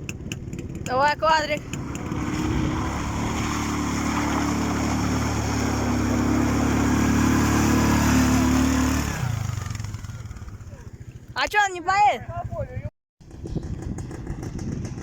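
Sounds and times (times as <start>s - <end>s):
quad bike engine revving: 0.0s - 12.6s, 13.2s - 15.0s.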